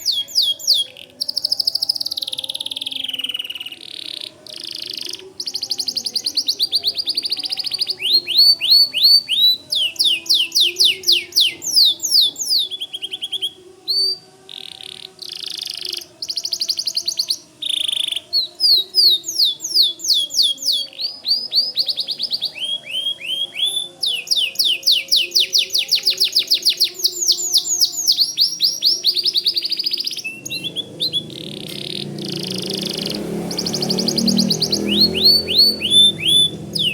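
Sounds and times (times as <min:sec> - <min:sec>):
canary singing: 0:00.0 - 0:36.9.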